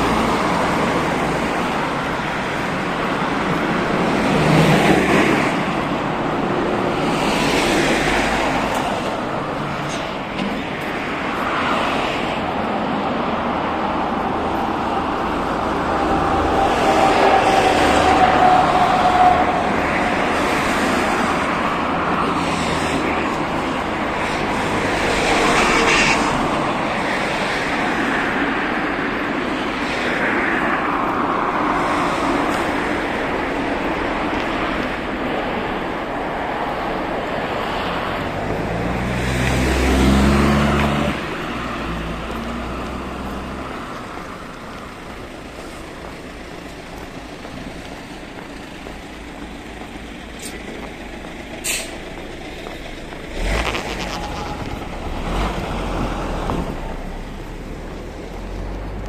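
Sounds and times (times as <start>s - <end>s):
vehicles passing close by: 0.0s - 59.0s.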